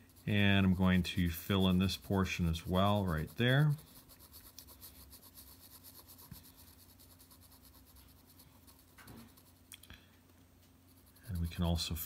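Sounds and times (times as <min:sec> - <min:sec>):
pencil scratching on paper: 0:00.0 - 0:09.7, 0:10.9 - 0:12.0.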